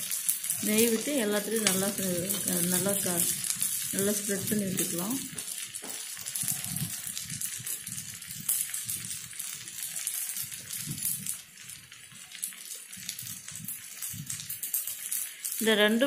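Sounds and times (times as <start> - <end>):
food sizzling in ghee: 0.0 - 16.0.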